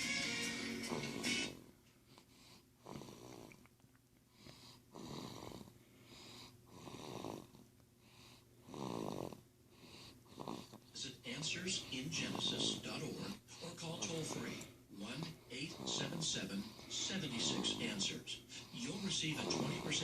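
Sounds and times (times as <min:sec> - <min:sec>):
baby snoring softly: 0:00.8 - 0:03.6, 0:04.3 - 0:11.0, 0:11.6 - 0:20.0.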